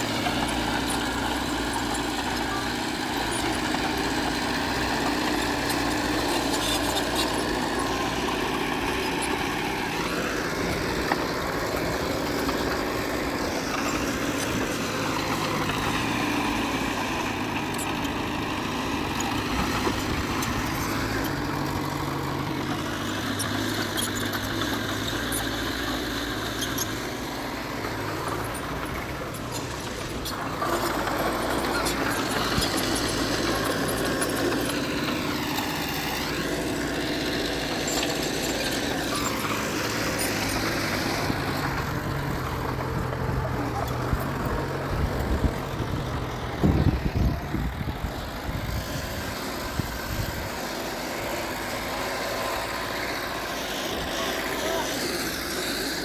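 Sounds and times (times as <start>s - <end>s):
heavy diesel engine revving: 0.0s - 56.0s.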